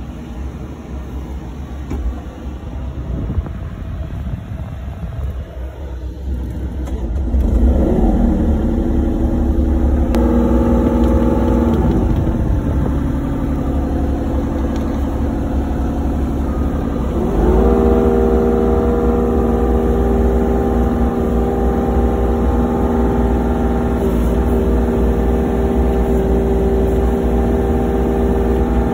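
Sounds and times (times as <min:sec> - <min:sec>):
diesel engine starting and running: 0:00.0 - 0:28.9.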